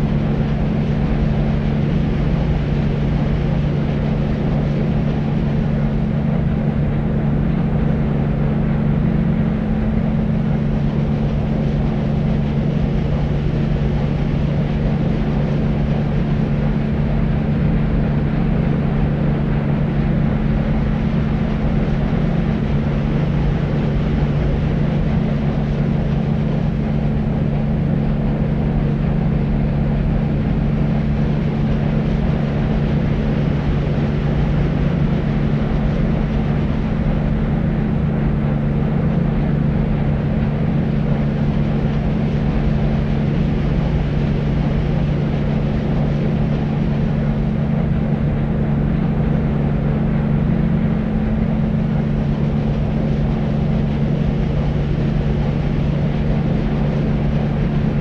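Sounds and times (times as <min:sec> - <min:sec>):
constant low hum: 0:00.0 - 0:58.0
deep rumbling white noise: 0:00.0 - 0:58.0.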